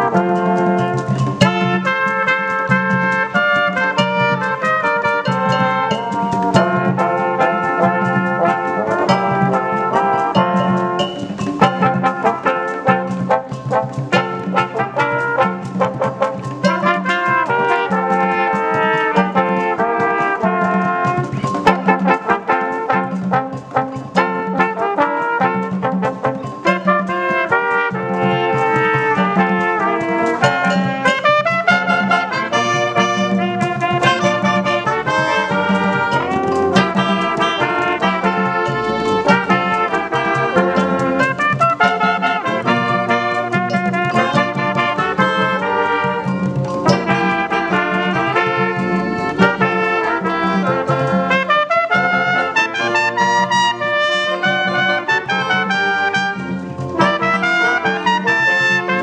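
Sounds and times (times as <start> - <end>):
brass section playing a melody: 0.0 - 59.0.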